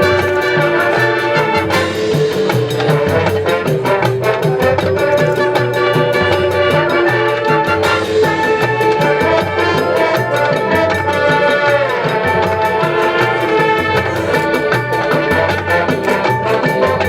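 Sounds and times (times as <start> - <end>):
quick percussion beat: 0.0 - 17.0.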